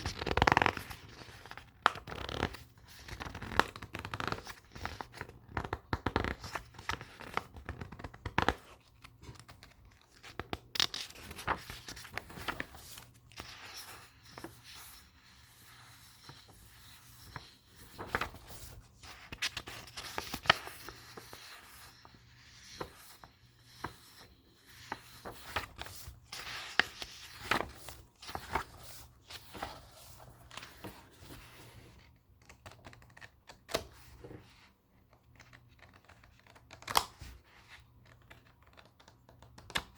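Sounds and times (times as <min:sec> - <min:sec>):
book pages turning: 0:00.0 - 0:39.9.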